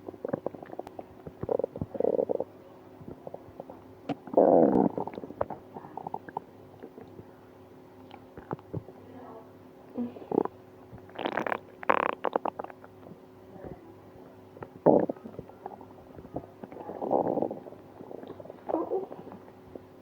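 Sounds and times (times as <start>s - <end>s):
stomach gurgling: 0.0s - 7.3s, 8.0s - 9.0s, 10.2s - 13.8s, 14.4s - 20.0s.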